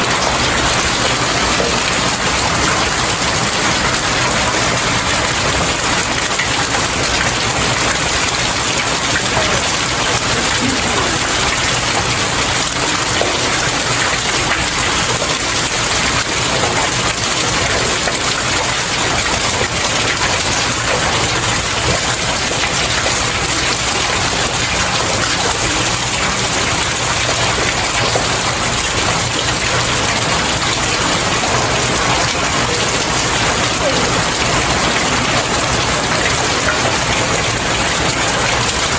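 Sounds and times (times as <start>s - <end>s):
rain pattering on stairs: 0.0s - 38.9s.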